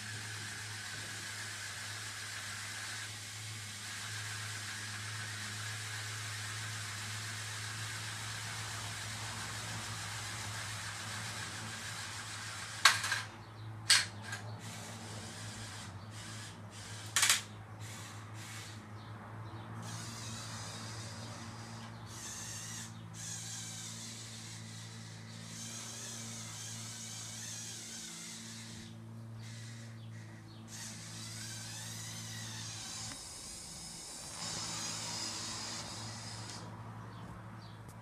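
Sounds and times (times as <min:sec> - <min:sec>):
small electric motors and gearing: 0:00.0 - 0:38.0.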